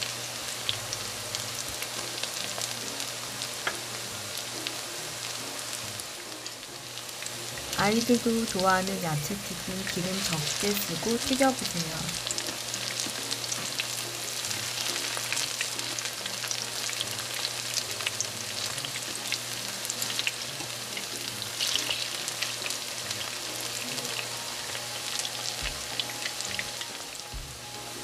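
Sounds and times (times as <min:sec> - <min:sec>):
fritters sizzling in frying pan: 0:00.0 - 0:27.6.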